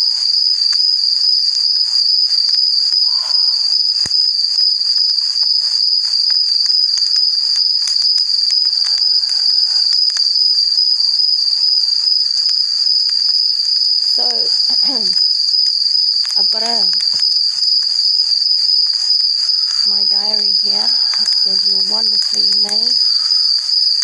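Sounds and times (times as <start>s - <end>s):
high-pitched insect trill: 0.0s - 24.0s.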